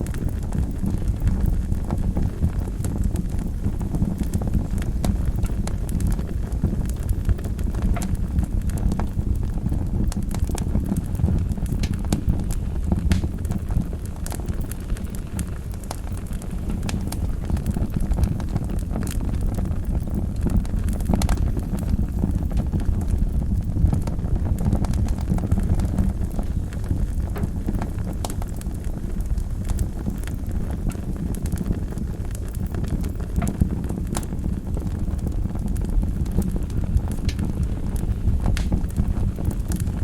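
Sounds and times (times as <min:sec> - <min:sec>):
fire crackling and popping: 0:00.0 - 0:40.0
low rumble of flame: 0:00.0 - 0:40.0.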